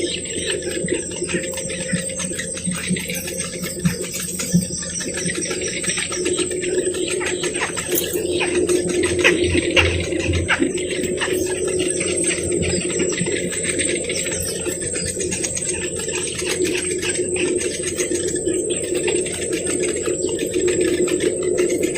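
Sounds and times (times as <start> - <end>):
birds calling: 0.0 - 21.9
steady low hum: 0.0 - 21.9.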